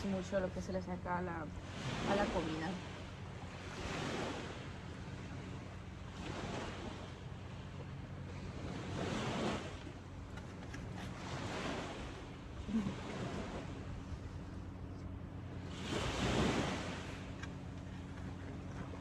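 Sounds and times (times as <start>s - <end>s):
low hum: 0.0s - 19.0s
sea waves washing on shore: 0.0s - 19.0s.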